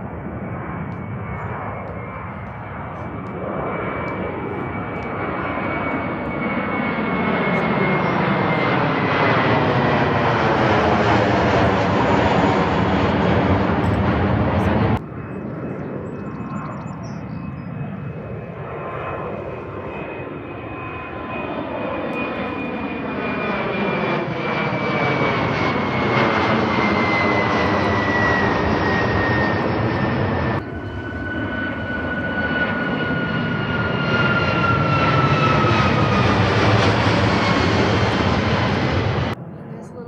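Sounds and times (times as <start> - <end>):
jet airliner passing overhead: 0.0 - 40.0.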